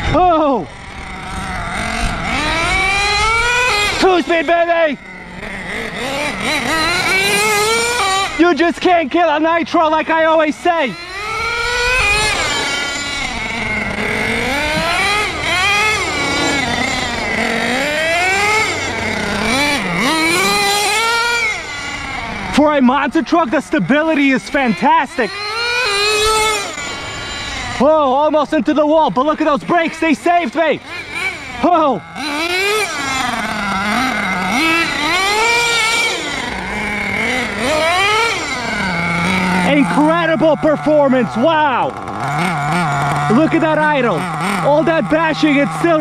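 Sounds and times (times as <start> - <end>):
model engine revving: 0.0 - 46.0.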